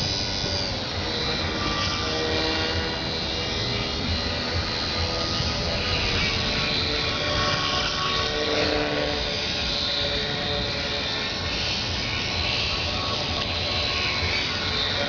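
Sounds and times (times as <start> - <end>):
small motor and propeller buzzing: 0.0 - 15.0.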